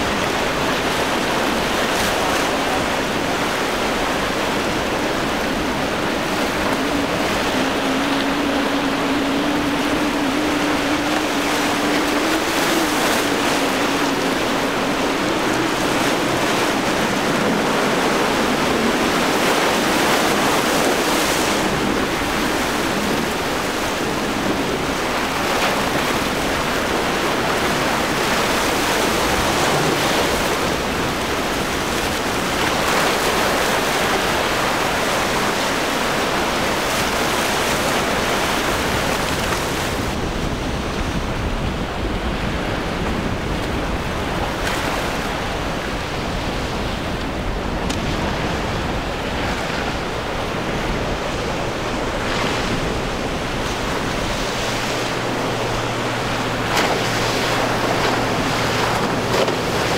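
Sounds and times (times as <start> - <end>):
breaking surf: 0.0 - 59.9
low boat engine hum: 0.0 - 59.9
wind buffeting microphone: 0.0 - 59.9.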